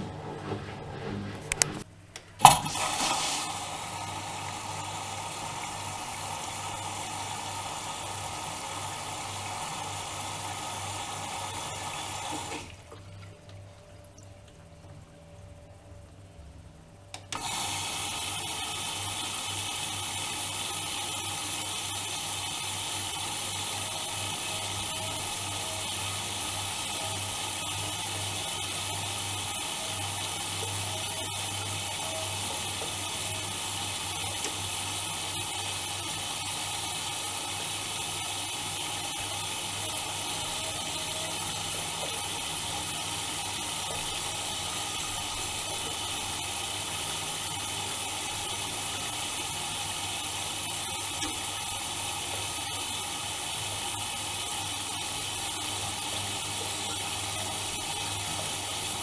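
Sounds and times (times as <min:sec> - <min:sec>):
washing machine drawing in water: 0:00.0 - 0:15.1, 0:17.4 - 0:59.0.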